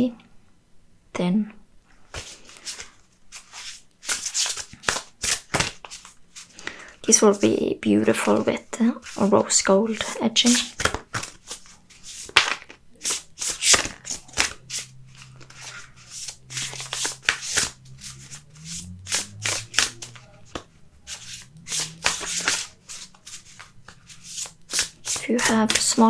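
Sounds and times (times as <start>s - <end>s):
cards being shuffled: 2.1s - 7.5s, 8.1s - 26.0s.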